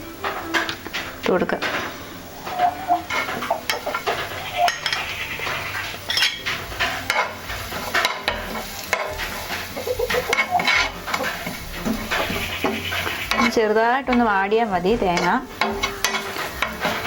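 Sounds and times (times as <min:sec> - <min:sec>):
coconut sizzling in a pan: 0:00.0 - 0:17.0
utensil scraping a pan: 0:00.0 - 0:17.0.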